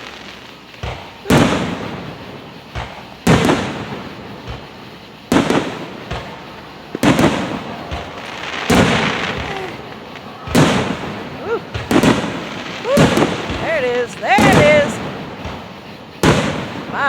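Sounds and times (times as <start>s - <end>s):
firework shells bursting: 0.0s - 17.0s
small firework pops: 0.0s - 17.0s.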